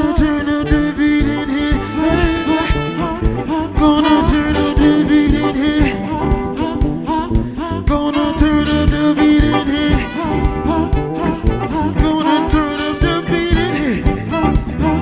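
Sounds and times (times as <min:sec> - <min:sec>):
guitar: 0:00.0 - 0:15.0
person singing lead vocal: 0:00.0 - 0:15.0
steady drum beat: 0:00.0 - 0:15.0.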